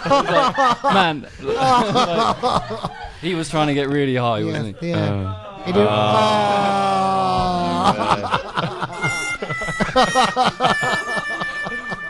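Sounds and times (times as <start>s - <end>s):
men laughing: 0.0s - 3.2s, 4.5s - 12.0s.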